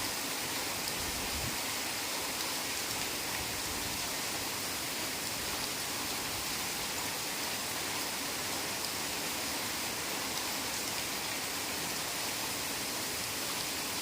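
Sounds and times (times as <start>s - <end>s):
heavy rain in a forest: 0.0s - 14.0s.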